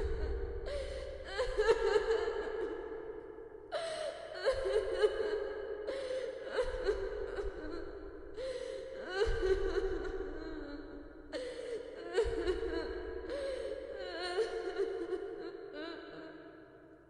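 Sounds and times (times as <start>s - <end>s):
person crying and whimpering: 0.0s - 2.8s, 3.8s - 10.8s, 11.4s - 16.4s.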